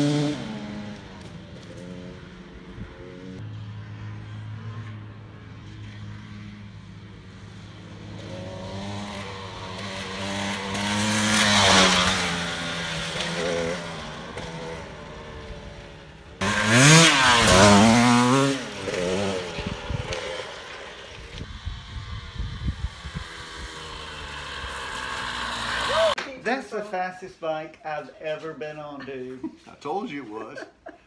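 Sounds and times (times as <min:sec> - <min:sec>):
dirt bike engine accelerating: 0:00.0 - 0:26.3.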